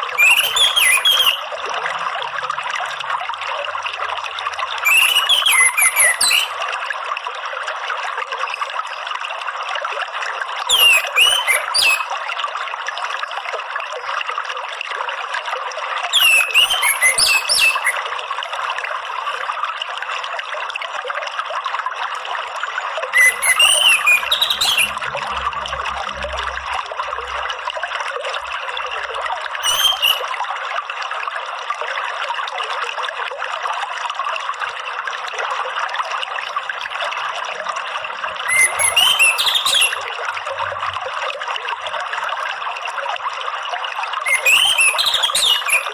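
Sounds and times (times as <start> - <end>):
running water trickling: 0.0 - 45.9.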